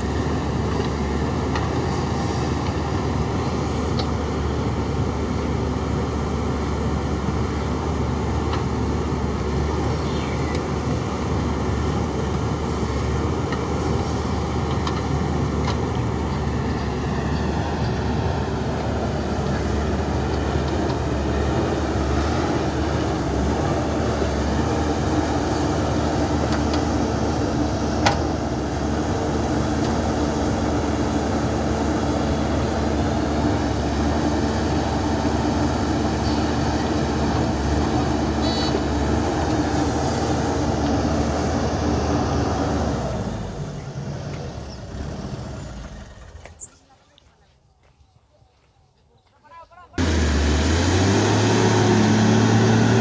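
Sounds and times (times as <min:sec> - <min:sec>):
diesel engine running under load: 0:00.0 - 0:46.7, 0:50.0 - 0:53.0.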